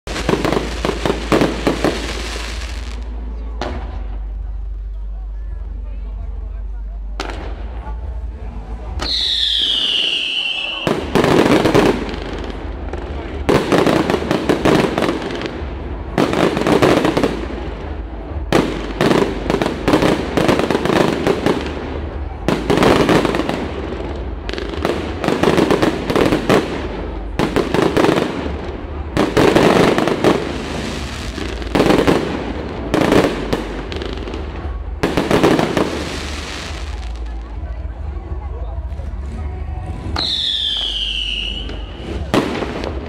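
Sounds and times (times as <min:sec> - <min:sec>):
fireworks bursting with sharp bangs: 0:00.0 - 0:04.9, 0:07.1 - 0:43.0.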